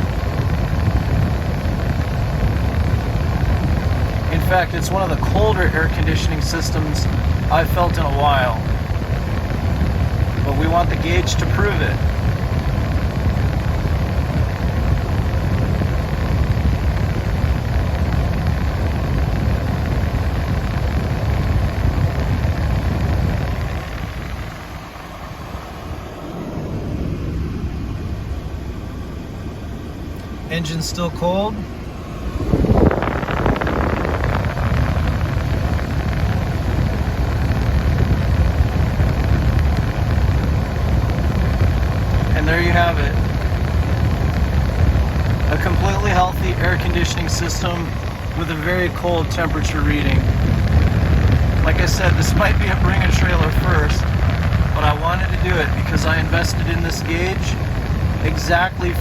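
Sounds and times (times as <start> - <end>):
air-conditioning blower rushing: 0.0 - 59.0
car engine rumble: 0.0 - 59.0.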